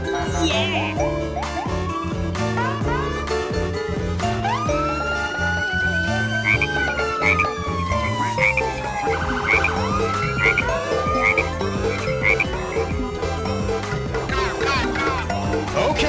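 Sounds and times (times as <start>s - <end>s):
looping synthesized melody: 0.0s - 16.0s.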